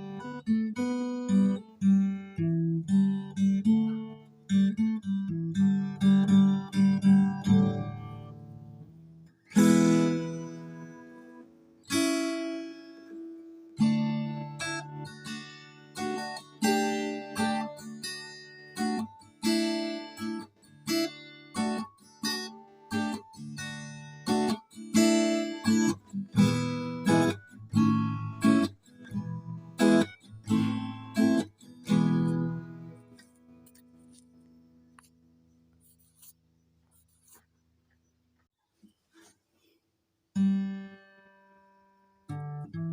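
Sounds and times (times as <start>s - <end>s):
acoustic guitar strumming: 0.0s - 35.1s, 40.4s - 42.9s.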